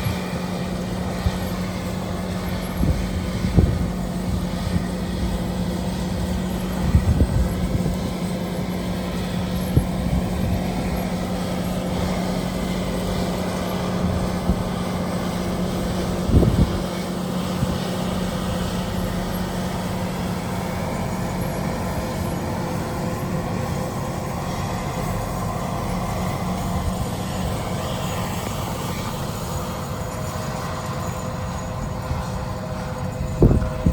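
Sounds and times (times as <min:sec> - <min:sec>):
tractor diesel engine droning: 0:00.0 - 0:33.9
wind buffeting microphone: 0:00.0 - 0:33.9.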